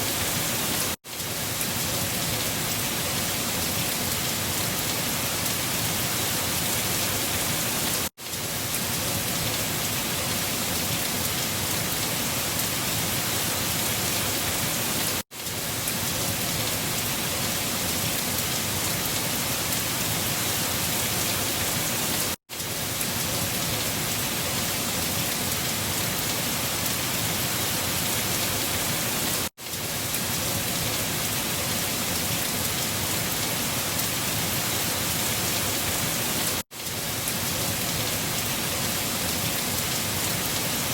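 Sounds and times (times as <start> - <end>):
rain-like patter: 0.0 - 40.9.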